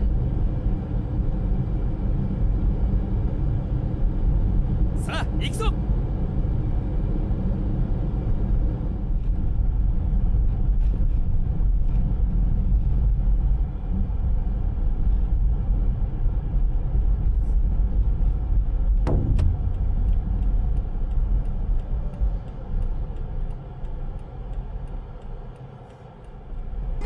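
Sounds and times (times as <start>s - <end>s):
vehicle rumbling in motion: 0.0s - 27.0s.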